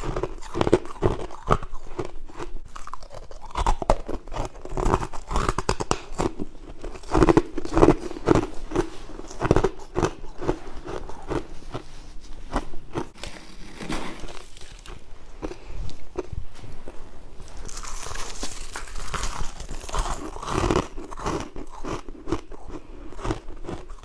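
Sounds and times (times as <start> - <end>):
frost crunched and chewed: 0.0 - 11.9, 12.5 - 24.0.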